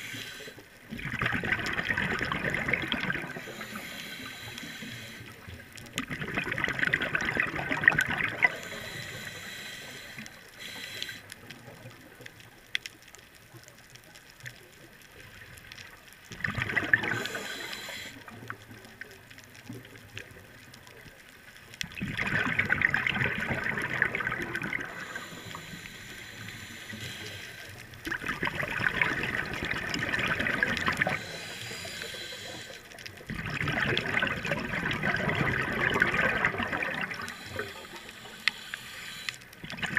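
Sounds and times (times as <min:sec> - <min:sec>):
underwater exhaled bubbles rushing: 0:00.0 - 0:10.2, 0:16.2 - 0:21.0, 0:21.8 - 0:39.9.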